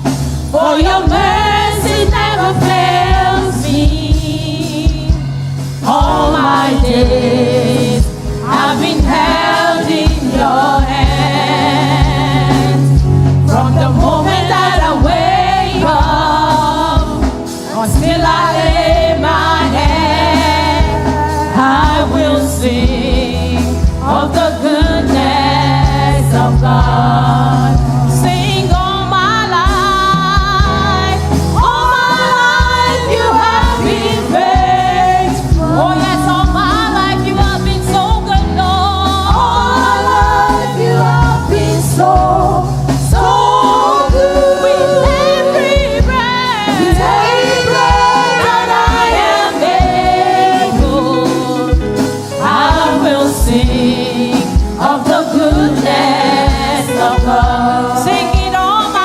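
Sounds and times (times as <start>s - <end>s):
choir singing worship song: 0.0s - 59.0s
instrumental accompaniment: 0.0s - 59.0s
sustained bass line: 0.0s - 59.0s.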